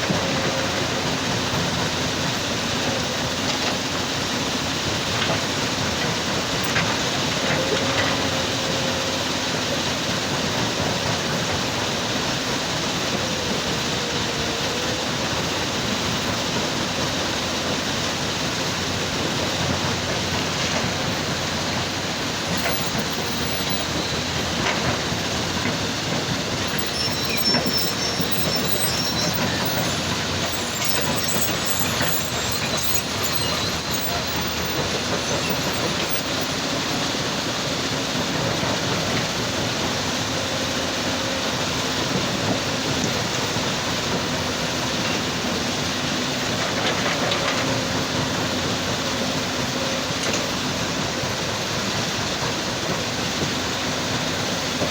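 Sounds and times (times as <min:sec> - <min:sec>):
excavator and stone crusher running: 0:00.0 - 0:54.9.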